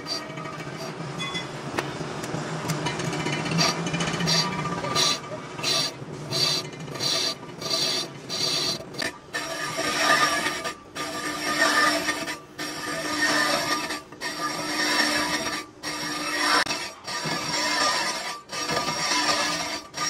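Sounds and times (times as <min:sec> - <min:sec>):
rasping file strokes: 0:03.6 - 0:20.0.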